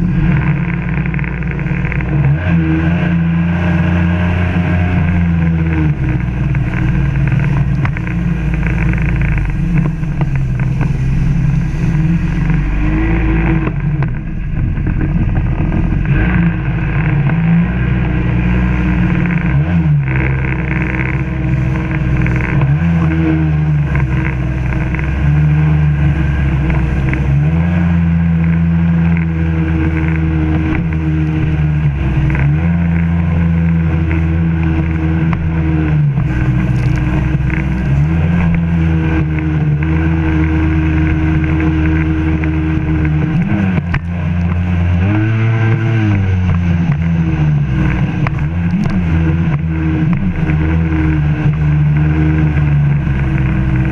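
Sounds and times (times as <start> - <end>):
personal watercraft engine revving: 0.0 - 53.9.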